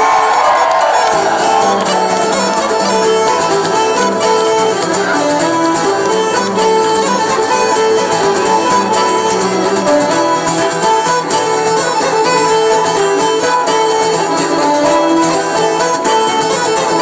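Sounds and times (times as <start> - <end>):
bowed fiddle melody: 0.0 - 17.0
plucked string accompaniment: 0.0 - 17.0.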